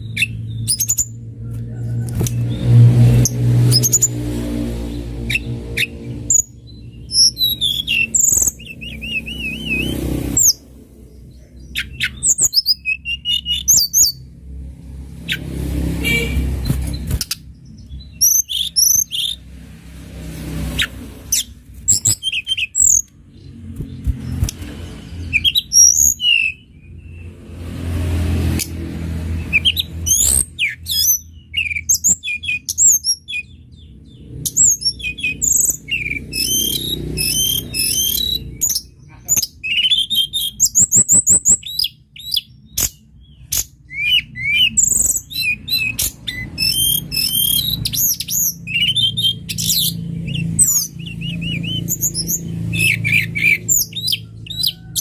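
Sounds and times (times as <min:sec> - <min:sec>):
songbird chirps and trills: 0:00.0 - 0:14.4, 0:16.1 - 0:19.6, 0:20.3 - 0:27.4, 0:28.5 - 0:55.0.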